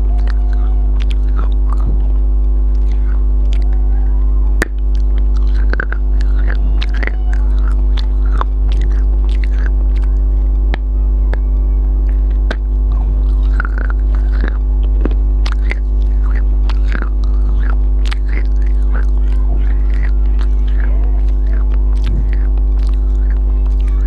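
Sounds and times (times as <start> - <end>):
loud electrical hum: 0.0 - 24.0
person chewing food: 0.0 - 24.0
wet mouth clicks and smacks: 0.2 - 2.0, 2.7 - 3.7, 4.6 - 10.9, 12.0 - 24.0.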